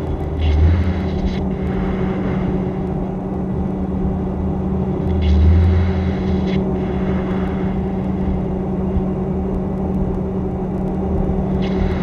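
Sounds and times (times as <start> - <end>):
cockpit drone: 0.0 - 12.0.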